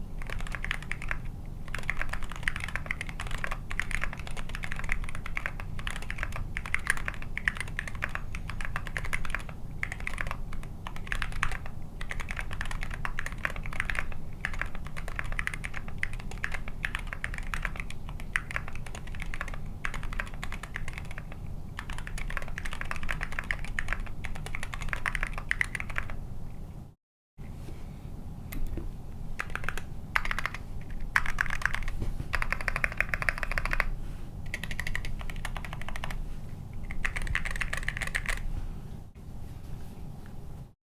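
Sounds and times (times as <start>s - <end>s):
fast mechanical keyboard typing: 0.2s - 26.2s, 29.4s - 36.2s, 36.8s - 38.4s.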